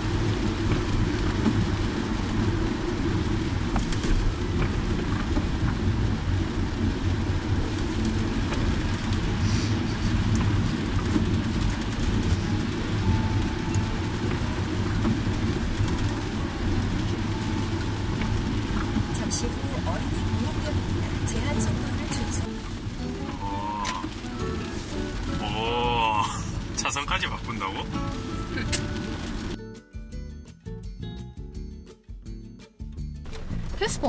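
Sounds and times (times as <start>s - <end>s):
car driving on wet road: 0.0s - 29.6s, 33.3s - 34.0s
rain hiss: 0.0s - 29.6s, 33.3s - 34.0s.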